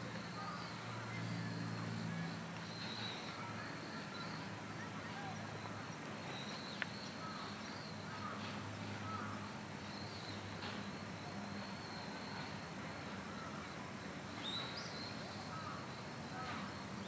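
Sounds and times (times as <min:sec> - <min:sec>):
faint bird chirps: 0:00.0 - 0:17.0
outdoor background hiss: 0:00.0 - 0:17.0.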